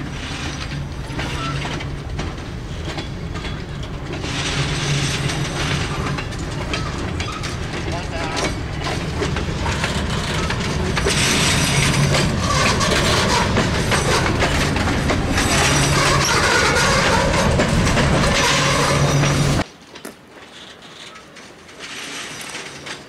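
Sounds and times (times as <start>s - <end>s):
freight train rolling past: 0.0s - 19.7s
steel wheels clattering over rail joints: 0.0s - 23.0s.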